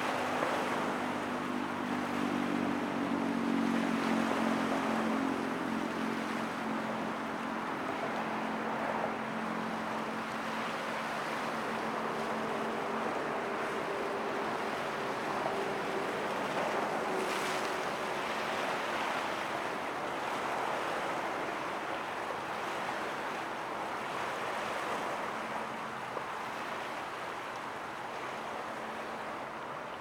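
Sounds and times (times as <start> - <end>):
water rushing at shore: 0.0 - 30.0
wind: 0.0 - 30.0.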